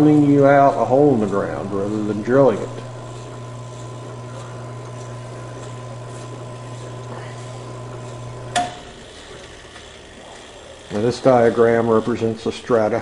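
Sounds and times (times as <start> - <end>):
low electric motor hum: 0.0 - 13.0.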